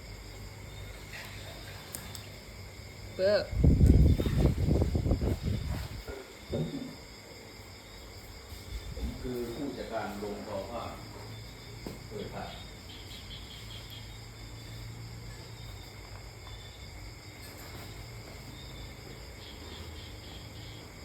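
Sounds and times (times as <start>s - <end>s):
high-pitched insect chirping: 0.0s - 21.0s.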